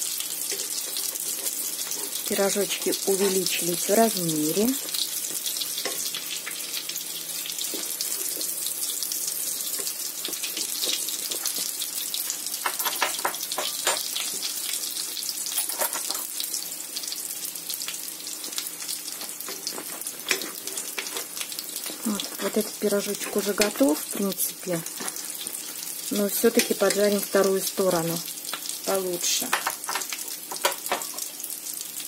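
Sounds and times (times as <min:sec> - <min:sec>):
oil sizzling in a frying pan: 0:00.0 - 0:32.0.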